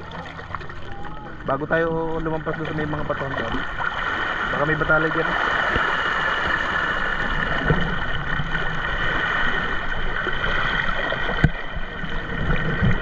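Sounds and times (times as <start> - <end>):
water sloshing around wading legs: 0.0 - 13.0.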